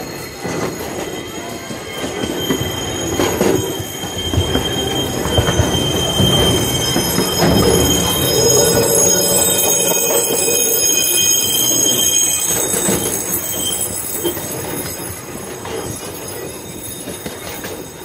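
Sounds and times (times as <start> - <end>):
high wheel squeal: 0.0 - 18.0
train wheels rumbling over rails: 0.0 - 18.0.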